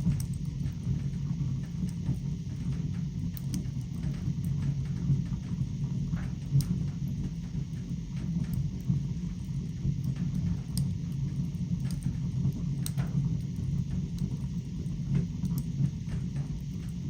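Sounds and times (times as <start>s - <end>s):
fire crackles and pops: 0.0s - 17.0s
fire rumble in fireplace: 0.0s - 17.0s.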